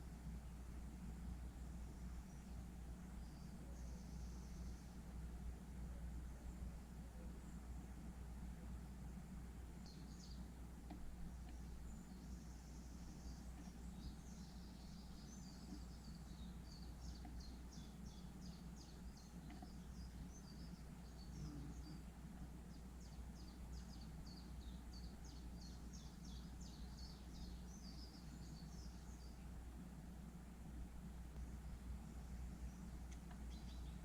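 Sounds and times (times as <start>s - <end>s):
low background rumble: 0.0s - 34.0s
small birds chirping: 0.0s - 34.0s.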